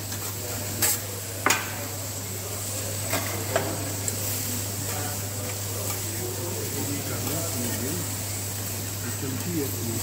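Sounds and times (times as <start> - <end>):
food sizzling: 0.0 - 10.0.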